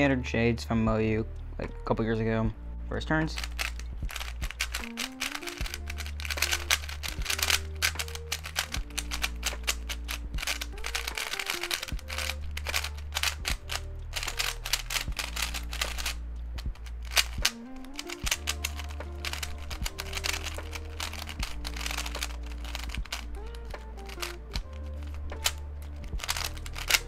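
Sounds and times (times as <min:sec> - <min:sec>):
background music: 0:00.0 - 0:27.0
puzzle cube clicking: 0:03.3 - 0:27.0.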